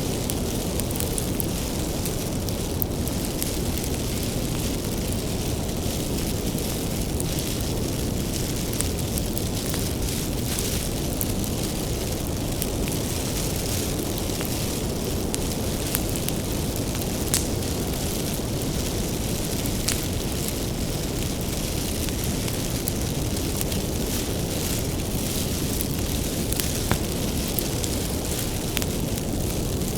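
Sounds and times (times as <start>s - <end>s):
burning wood crackling and popping: 0.0s - 29.9s
rumble of bonfire flames: 0.0s - 29.9s.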